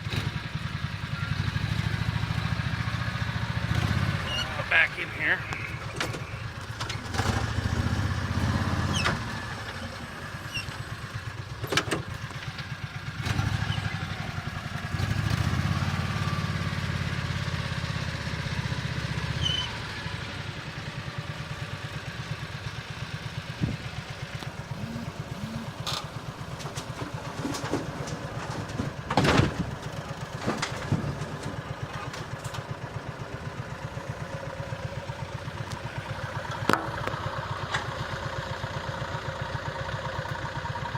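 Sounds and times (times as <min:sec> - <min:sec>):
small engine idling: 0:00.0 - 0:40.9.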